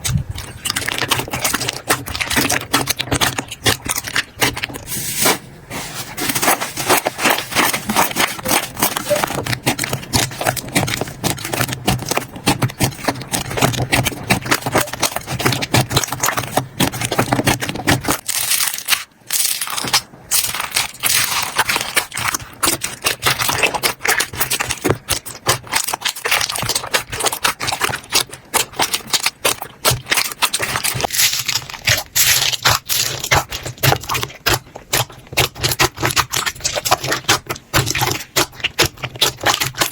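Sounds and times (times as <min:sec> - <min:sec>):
slime crackling and clicking: 0:00.0 - 0:04.9, 0:06.2 - 0:39.9.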